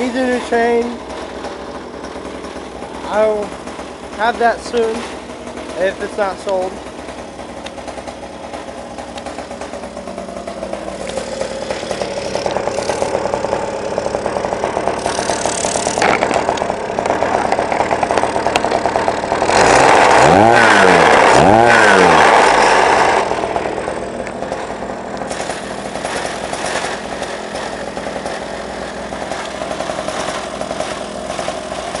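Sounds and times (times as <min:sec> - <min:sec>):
two-stroke engine running and revving: 0:00.0 - 0:32.0.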